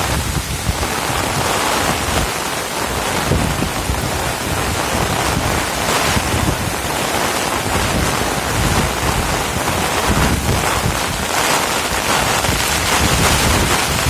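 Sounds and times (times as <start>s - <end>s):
heavy rain pouring: 0.0s - 14.0s
wind buffeting microphone: 0.0s - 14.0s.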